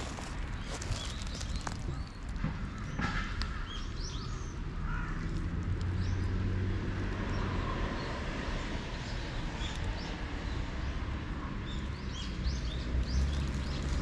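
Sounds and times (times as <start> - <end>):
small birds chirping: 0.0 - 11.0, 11.6 - 14.0.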